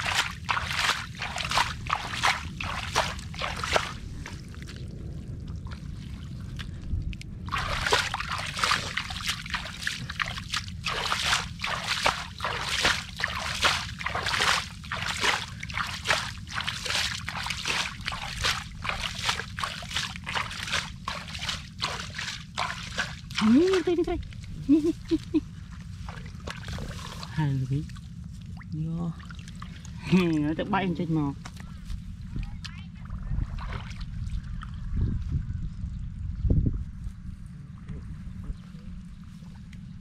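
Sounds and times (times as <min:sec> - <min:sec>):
muddy water splashing: 0:00.0 - 0:34.9.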